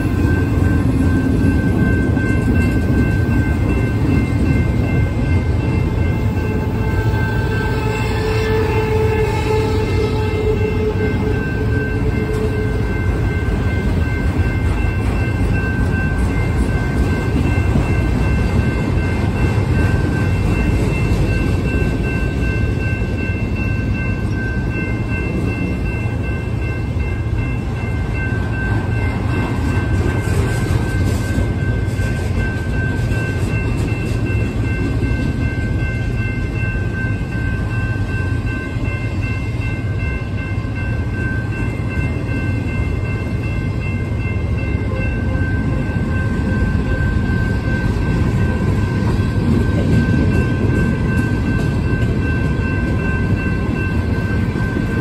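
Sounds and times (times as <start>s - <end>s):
crossing bell ringing: 0.0s - 55.0s.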